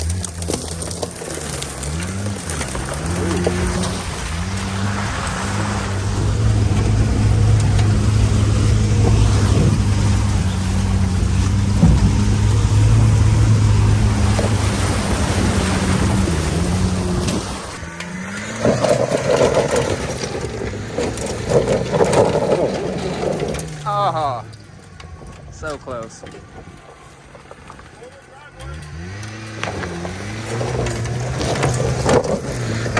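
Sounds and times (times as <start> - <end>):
rough crunching noise: 0.0 - 32.9.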